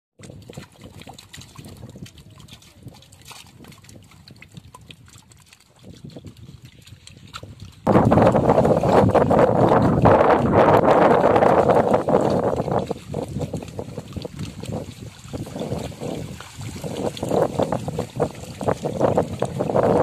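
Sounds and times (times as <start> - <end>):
drips and trickles: 0.2 - 20.0
small fish splashing in a net: 0.2 - 20.0.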